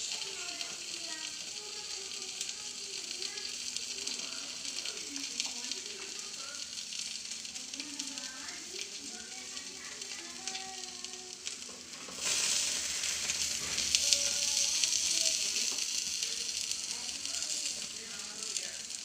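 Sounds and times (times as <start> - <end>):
fish sizzling on grill pan: 0.0 - 19.0.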